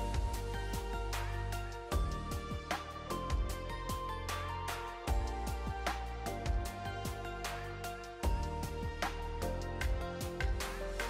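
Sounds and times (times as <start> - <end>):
instrumental music with percussive beat: 0.0 - 11.0.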